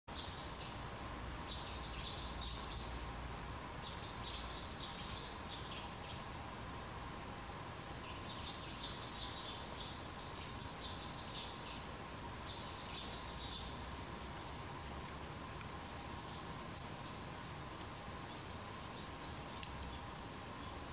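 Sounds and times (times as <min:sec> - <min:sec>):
faint high whine: 0:00.1 - 0:20.9
small birds chirping: 0:00.1 - 0:20.9
steady hiss: 0:00.1 - 0:20.9.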